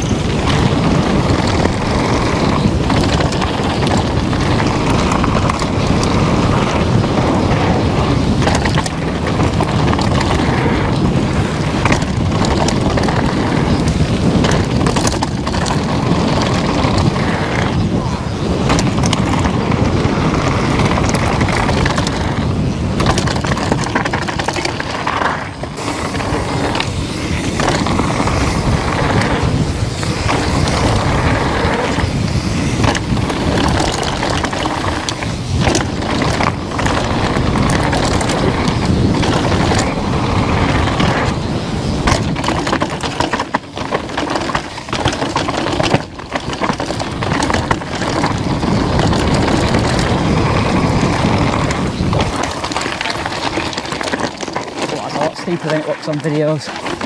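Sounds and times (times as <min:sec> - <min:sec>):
bike clattering over bumps: 0:00.0 - 0:57.0
bike tyre noise: 0:00.0 - 0:57.0
wind buffeting microphone: 0:00.0 - 0:57.0.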